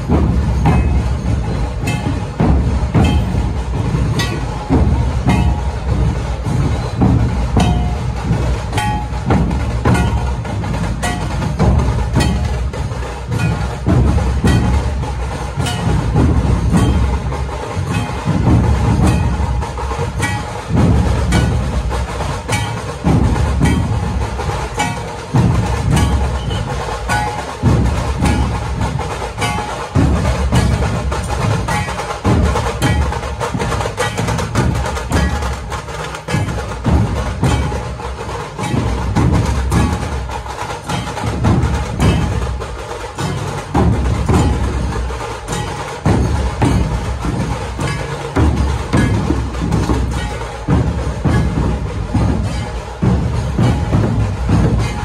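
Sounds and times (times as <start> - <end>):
low barrel drum strokes: 0.0 - 55.0
sharp cracking drum strokes: 0.0 - 55.0.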